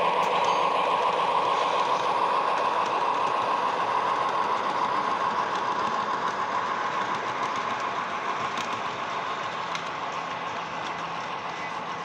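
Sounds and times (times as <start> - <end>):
model train whirring on rails: 0.0 - 12.0.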